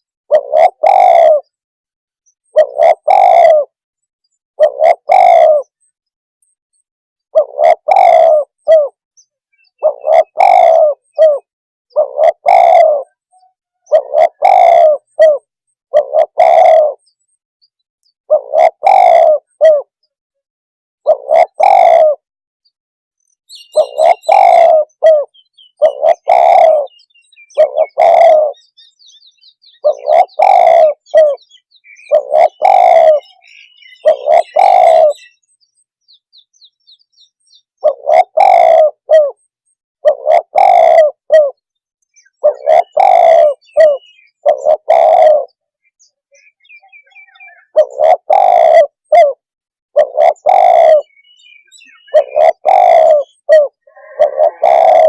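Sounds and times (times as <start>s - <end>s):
dove cooing: 0.0s - 1.6s, 2.4s - 3.8s, 4.6s - 5.9s, 7.3s - 9.0s, 9.6s - 17.1s, 18.3s - 20.1s, 21.0s - 22.3s, 23.5s - 35.6s, 36.3s - 55.0s
small bird chirping: 4.2s - 20.2s, 23.2s - 49.2s, 50.0s - 55.0s.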